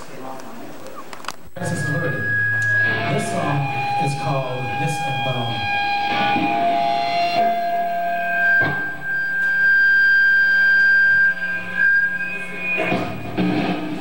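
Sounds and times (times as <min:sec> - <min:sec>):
band playing sustained high notes: 0:01.6 - 0:14.0
low drone: 0:01.6 - 0:14.0.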